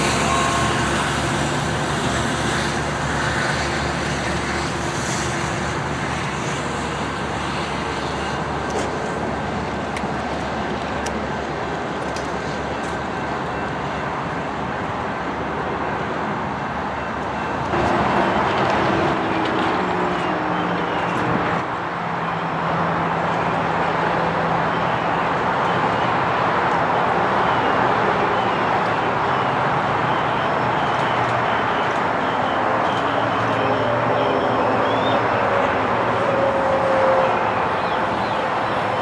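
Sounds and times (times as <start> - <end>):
traffic noise: 0.0 - 39.0.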